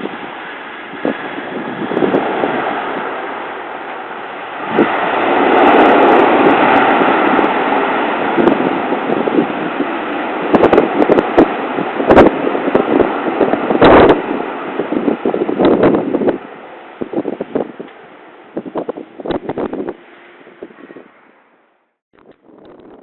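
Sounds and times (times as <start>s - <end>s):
wind buffeting microphone: 0.0s - 21.3s, 22.2s - 23.0s
jet airliner engine noise: 0.0s - 21.6s.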